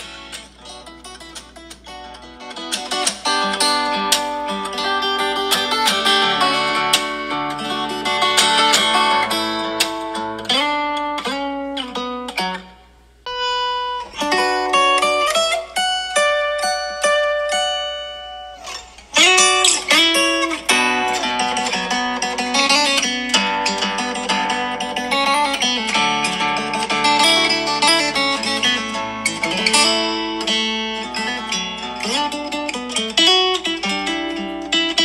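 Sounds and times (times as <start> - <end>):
plucked acoustic guitar music: 0.0 - 35.0.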